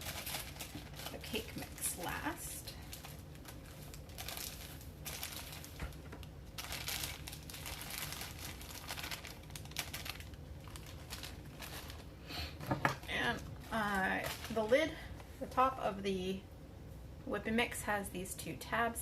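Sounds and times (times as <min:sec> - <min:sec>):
plastic packaging crinkling: 0:00.0 - 0:15.4.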